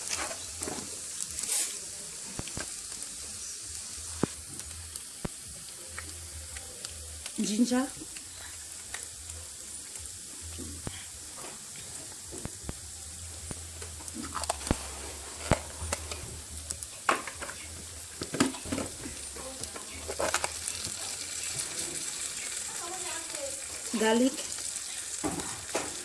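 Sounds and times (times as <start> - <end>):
rice sizzling in hot oil: 0.0 - 26.0.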